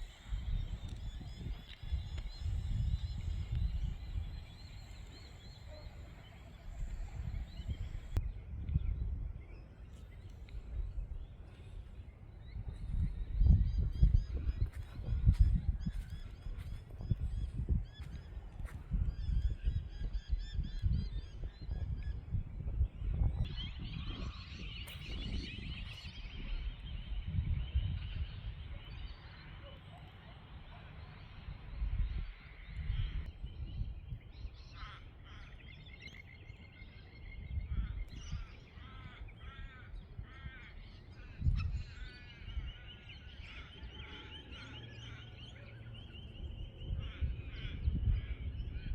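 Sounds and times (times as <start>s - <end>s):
wind buffeting microphone: 0.0s - 29.7s, 30.5s - 48.9s
birds chirping: 0.0s - 48.9s.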